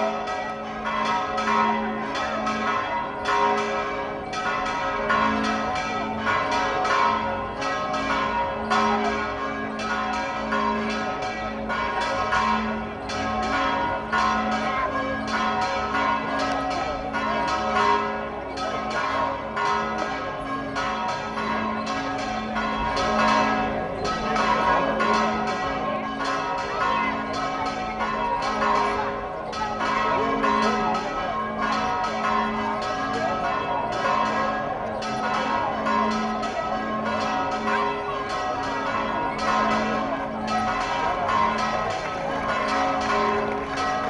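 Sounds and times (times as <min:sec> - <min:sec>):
church bells pealing: 0:00.0 - 0:44.0.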